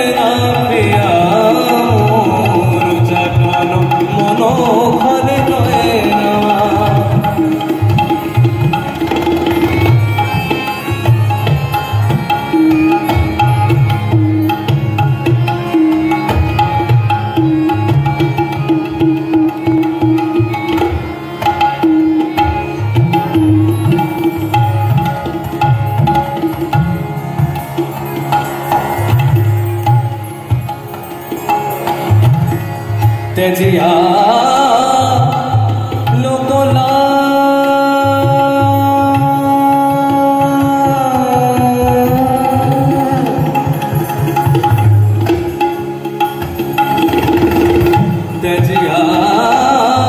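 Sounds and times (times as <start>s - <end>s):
harmonium melody: 0.0s - 50.0s
tabla rhythm: 0.0s - 50.0s.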